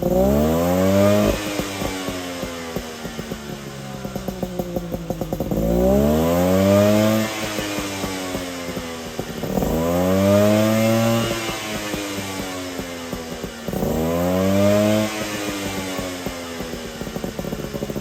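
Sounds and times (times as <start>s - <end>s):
two-stroke engine idling and revving: 0.0s - 18.0s.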